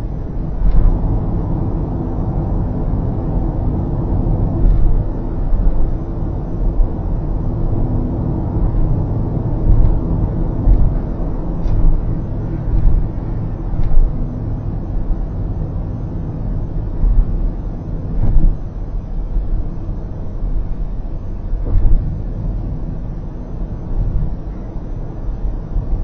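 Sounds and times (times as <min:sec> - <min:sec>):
car road noise inside cabin: 0:00.0 - 0:26.0.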